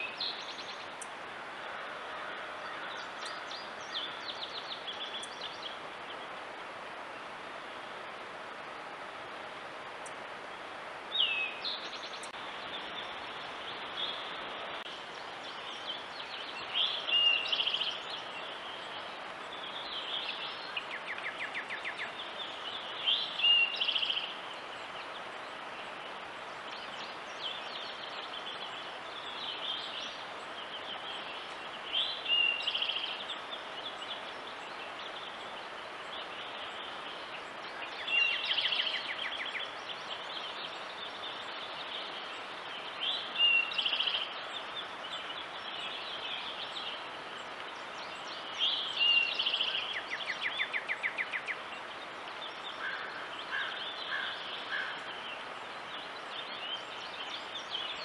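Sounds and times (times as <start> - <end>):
songbirds singing: 0.0 - 58.0
steady hiss: 0.0 - 58.0.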